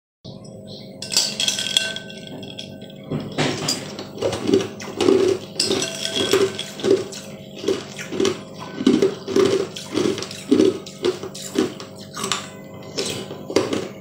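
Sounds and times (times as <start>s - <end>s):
close eating sounds: 0.3s - 14.0s.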